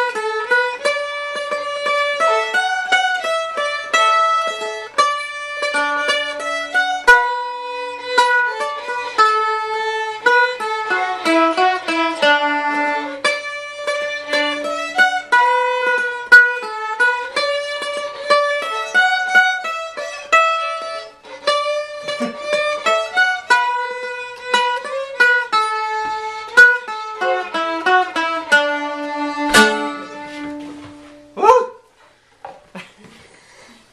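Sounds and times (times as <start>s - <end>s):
plucked string melody: 0.0s - 31.4s.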